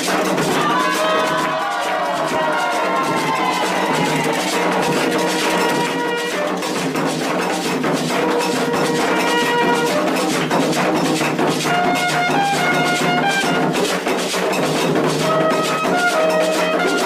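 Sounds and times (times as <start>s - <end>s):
drums and percussion rhythm: 0.0s - 17.0s.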